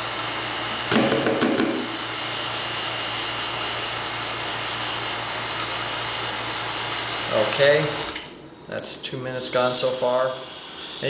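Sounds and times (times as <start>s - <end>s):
vacuum pump humming: 0.0s - 11.0s.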